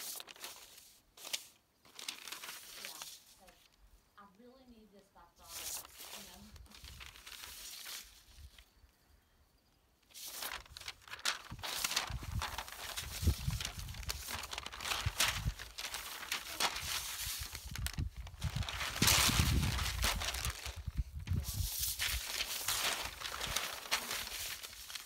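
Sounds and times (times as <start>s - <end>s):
paper rustling and crinkling: 0.0s - 3.8s, 5.4s - 8.7s, 10.1s - 25.0s.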